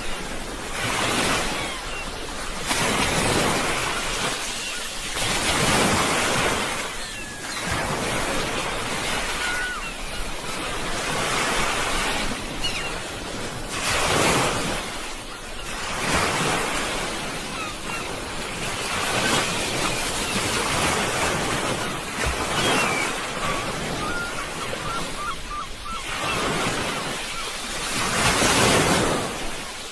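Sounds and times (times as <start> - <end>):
sea waves breaking on shore: 0.0 - 29.9.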